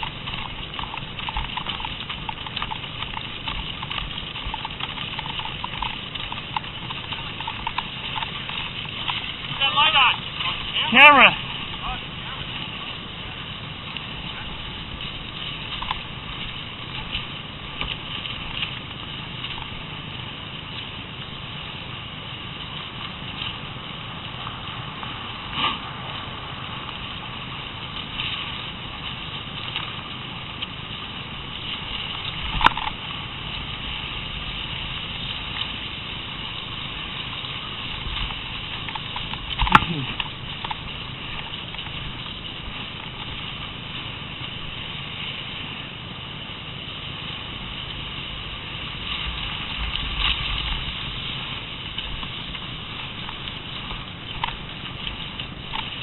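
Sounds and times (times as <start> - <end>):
skis scraping over snow: 0.0 - 56.0.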